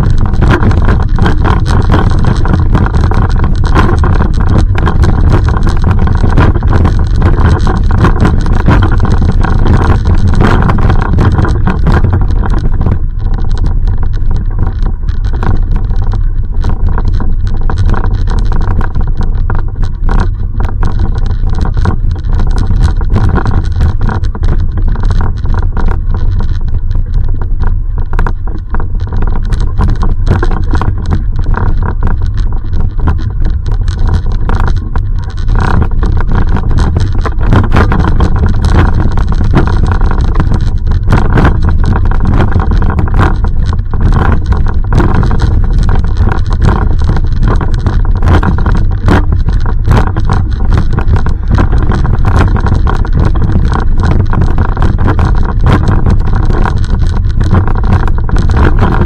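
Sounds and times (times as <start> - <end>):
microphone rubbing crackles: 0.0 - 59.0
wind on microphone: 0.0 - 59.0.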